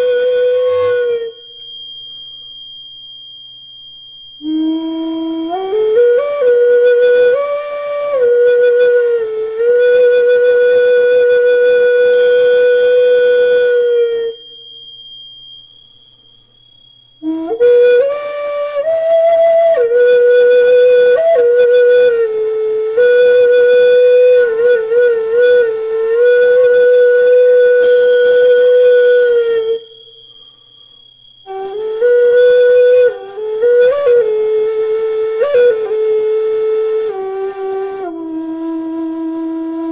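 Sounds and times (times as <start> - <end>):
high steady ringing tone: 0.0 - 37.0
gourd flute slow notes: 0.0 - 39.9.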